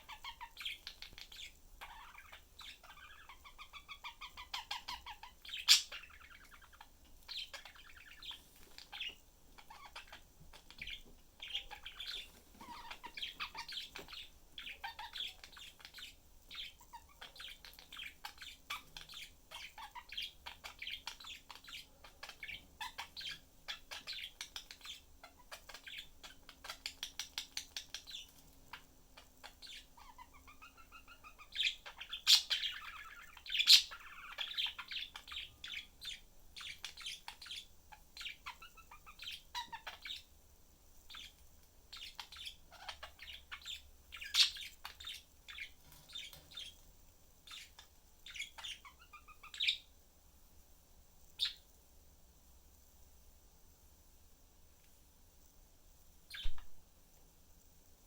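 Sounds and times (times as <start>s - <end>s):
budgies chattering: 0.0s - 40.3s, 41.1s - 46.8s, 47.4s - 49.9s.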